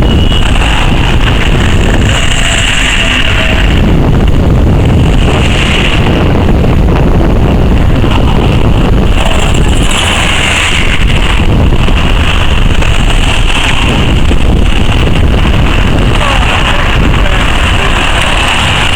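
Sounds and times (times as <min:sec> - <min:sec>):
lorry engines rumbling: 0:00.0 - 0:18.9
wind buffeting microphone: 0:00.0 - 0:18.9.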